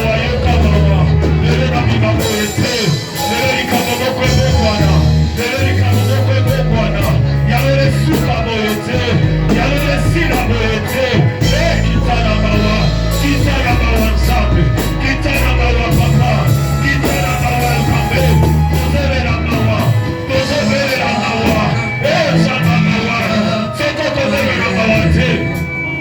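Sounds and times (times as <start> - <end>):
held bass notes: 0.0 - 26.0
people singing: 0.0 - 26.0
worship band playing: 0.0 - 26.0.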